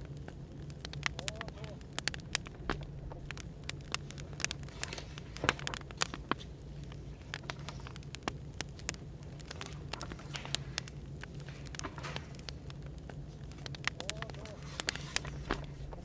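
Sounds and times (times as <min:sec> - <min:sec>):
low background hum: 0:00.0 - 0:16.0
wood fire crackling: 0:00.0 - 0:16.0.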